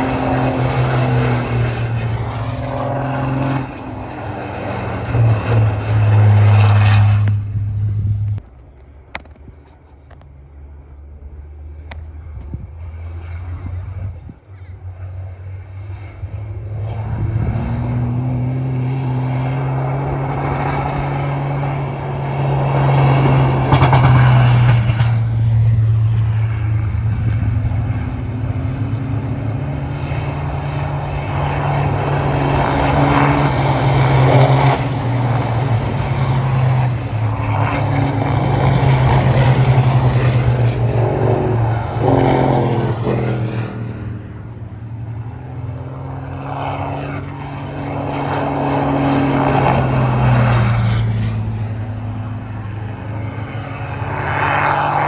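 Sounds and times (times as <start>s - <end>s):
diesel truck engines droning: 0.0s - 55.0s.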